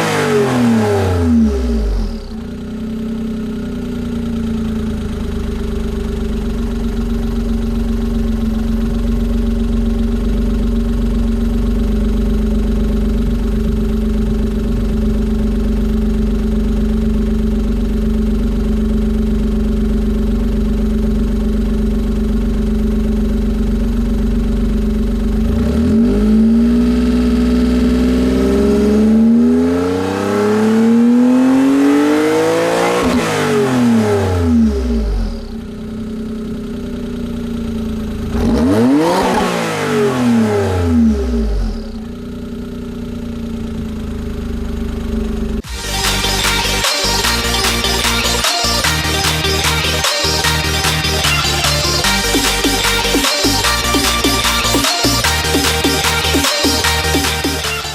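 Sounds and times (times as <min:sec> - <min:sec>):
turbo car engine revving: 0:00.0 - 0:57.9.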